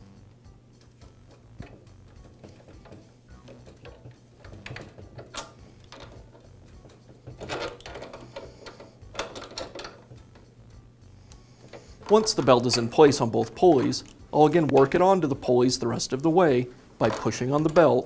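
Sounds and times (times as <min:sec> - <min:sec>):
light mechanical clicks and rattles: 0:00.8 - 0:10.6, 0:11.3 - 0:15.0, 0:17.0 - 0:18.0.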